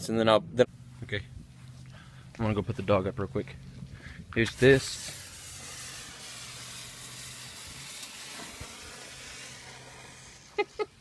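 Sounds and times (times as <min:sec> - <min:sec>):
burning firework hissing: 0:01.4 - 0:11.0.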